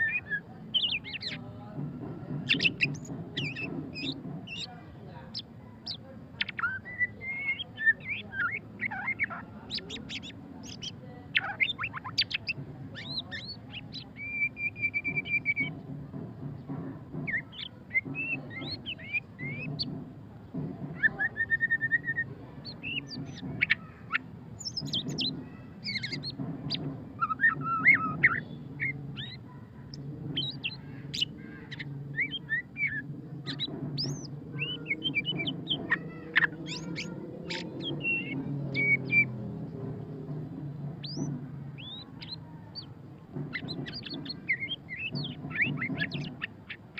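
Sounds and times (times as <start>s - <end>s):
bird singing varied song: 0.0s - 46.9s.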